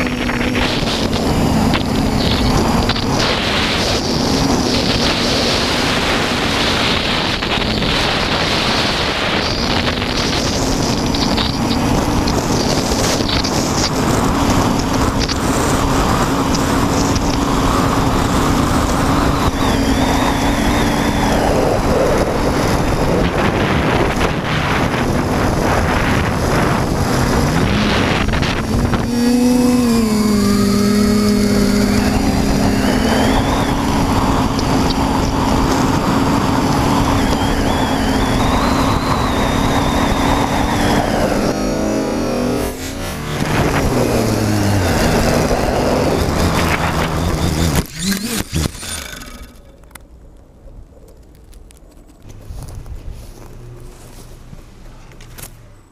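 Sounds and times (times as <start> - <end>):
drone motors humming: 0.0 - 51.0
wind rush: 0.0 - 51.4.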